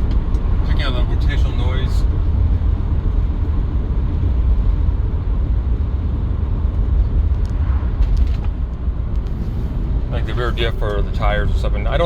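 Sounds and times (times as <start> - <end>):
low rumble inside moving car: 0.0 - 12.0.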